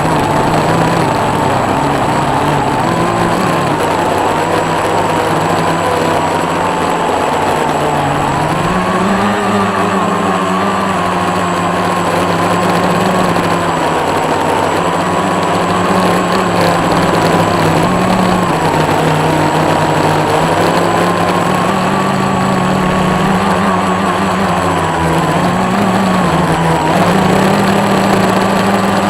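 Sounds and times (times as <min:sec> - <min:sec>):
drone propellers humming: 0:00.0 - 0:29.0.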